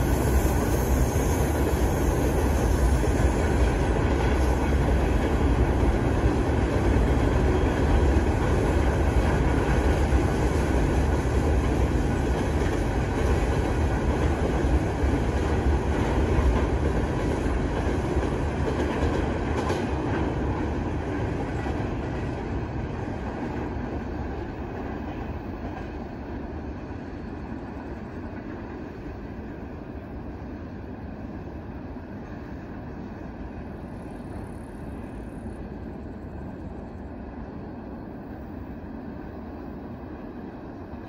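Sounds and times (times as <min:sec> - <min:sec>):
train wheels rolling on rails: 0:00.0 - 0:41.0.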